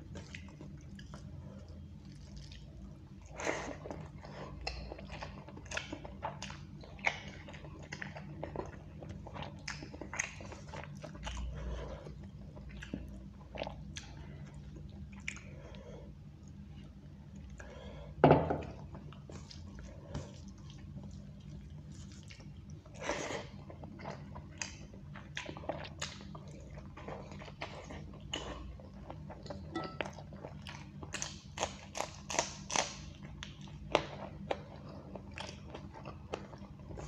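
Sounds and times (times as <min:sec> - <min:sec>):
person chewing food: 0:00.0 - 0:18.0, 0:18.6 - 0:37.0.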